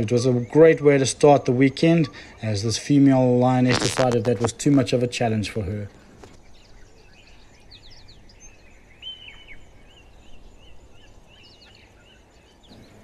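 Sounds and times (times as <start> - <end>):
faint outdoor background noise: 0.0 - 13.0
wild birds calling: 0.0 - 13.0.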